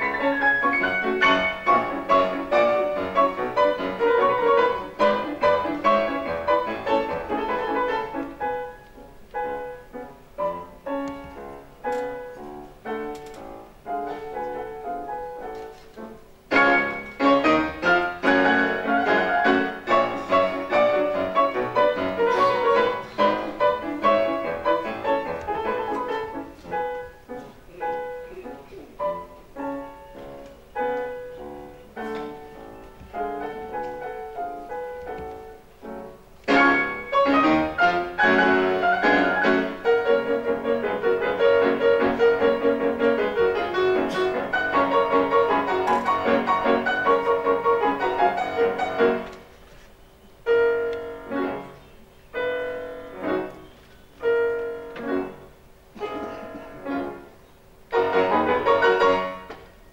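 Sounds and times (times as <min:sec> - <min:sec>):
piano four-hands playing: 0:00.0 - 0:59.9.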